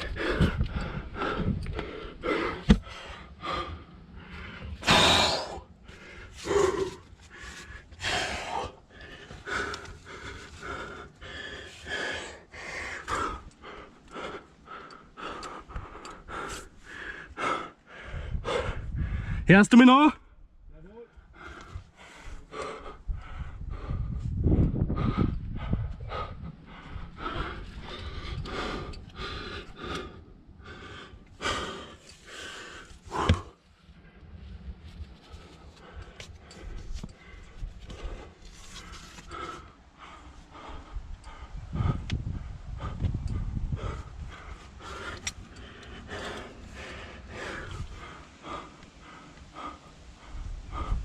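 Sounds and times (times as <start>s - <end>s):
person breathing hard: 0.0s - 19.4s, 21.2s - 34.6s, 35.3s - 51.0s.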